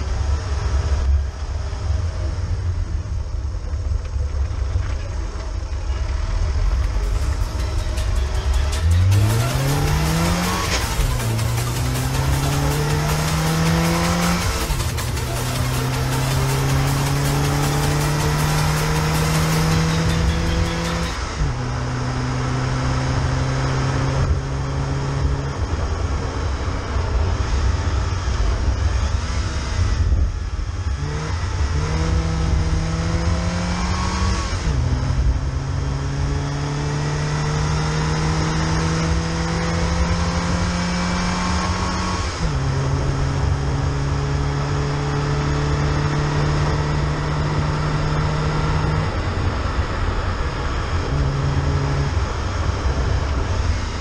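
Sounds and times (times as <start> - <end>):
car engine accelerating: 0.0 - 54.0
low road rumble: 0.0 - 54.0.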